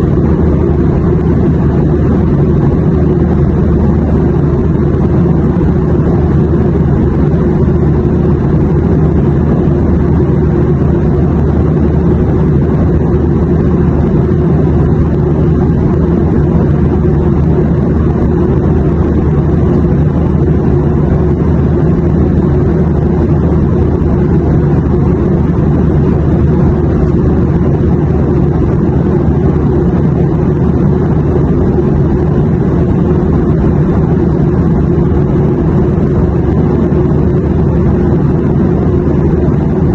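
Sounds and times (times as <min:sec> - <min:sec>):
airliner cabin engine rumble: 0:00.0 - 0:39.9
faint hum: 0:00.0 - 0:39.9.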